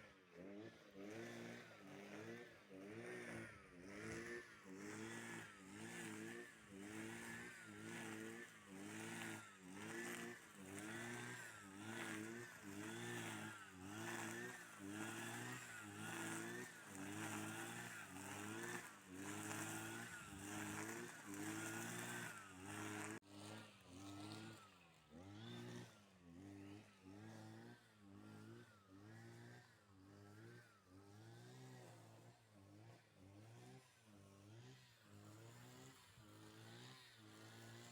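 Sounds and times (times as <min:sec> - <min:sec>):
faint engine revving: 0:00.0 - 0:37.9.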